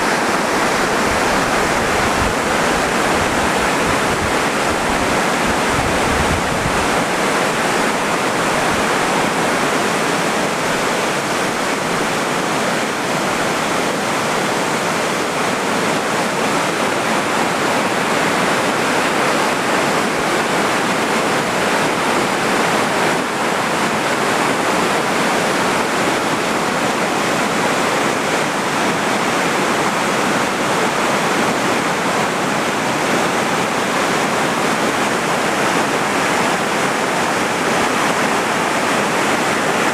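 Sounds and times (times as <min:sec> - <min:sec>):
water rushing through dam: 0:00.0 - 0:39.9.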